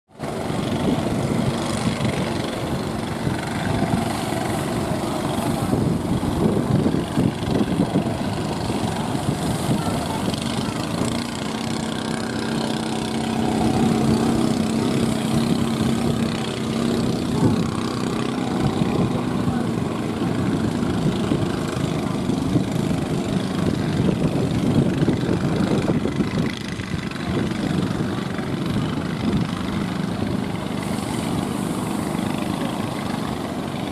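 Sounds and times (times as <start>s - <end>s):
wind: 0.0s - 33.9s
heavy surf breaking: 0.1s - 33.9s.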